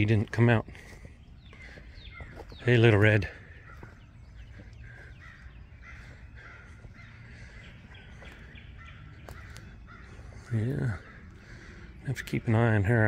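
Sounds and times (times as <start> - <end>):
crows cawing: 0.8 - 13.0.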